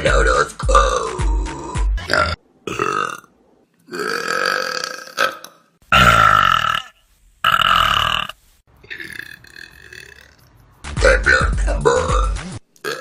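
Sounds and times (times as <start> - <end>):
person burping: 0.2 - 3.3, 3.9 - 13.0.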